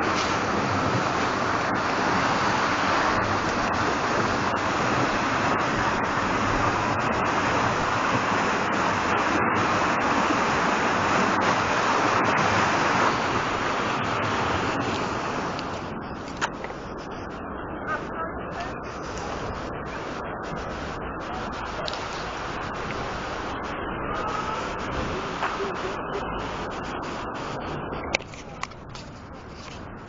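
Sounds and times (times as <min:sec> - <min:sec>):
flooded river rushing: 0:00.0 - 0:30.0.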